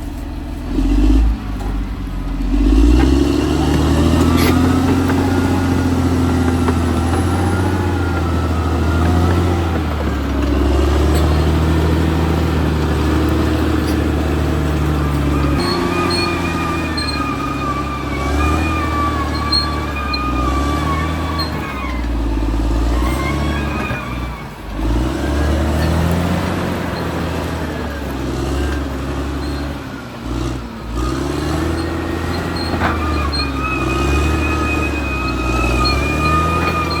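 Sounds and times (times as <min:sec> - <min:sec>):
bulldozer diesel engine: 0:00.0 - 0:37.0.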